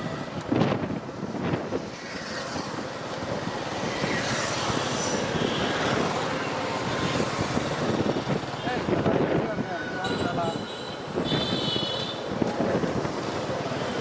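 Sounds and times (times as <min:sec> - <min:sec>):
road and traffic noise: 0:00.0 - 0:14.0.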